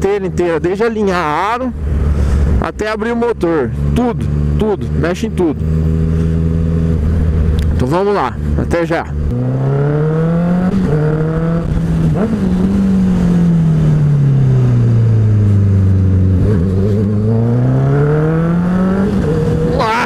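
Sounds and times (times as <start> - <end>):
motorcycle engine accelerating: 1.2 - 20.0.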